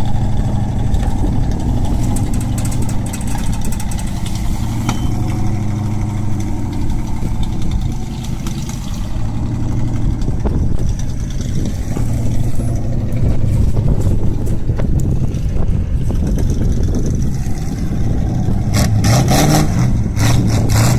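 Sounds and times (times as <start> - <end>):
wood chipper engine running: 0.0 - 20.9.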